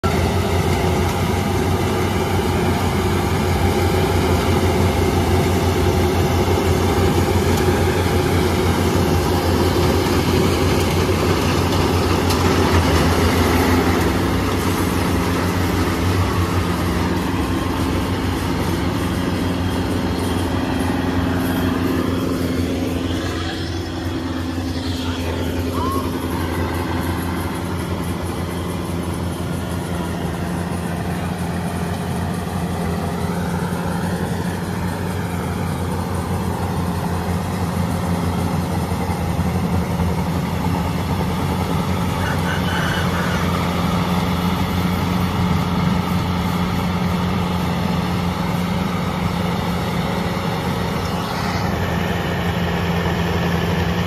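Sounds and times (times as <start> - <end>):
combine harvester engine and machinery: 0.0 - 54.0.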